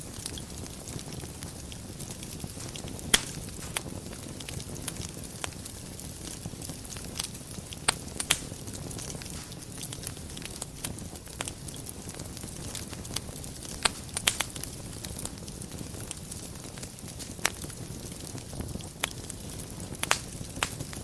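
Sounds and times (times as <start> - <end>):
fireplace fire crackling and popping: 0.0 - 21.0.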